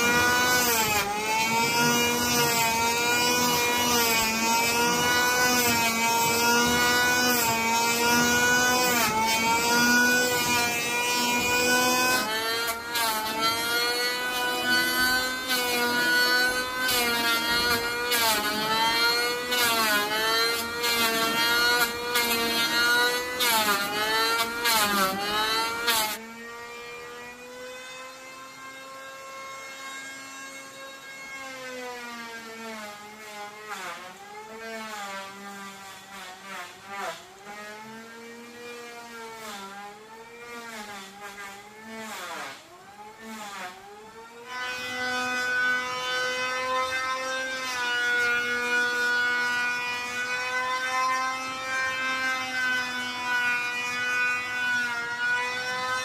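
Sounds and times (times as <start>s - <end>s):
power tool cutting wood: 0.0s - 56.0s.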